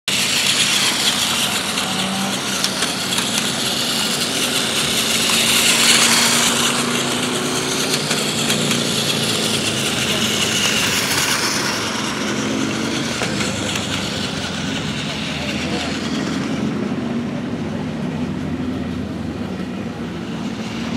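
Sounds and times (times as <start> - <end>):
toy train motor whirring: 0.1 - 17.1, 20.2 - 20.9
wheels rattling on track joints: 0.1 - 20.9.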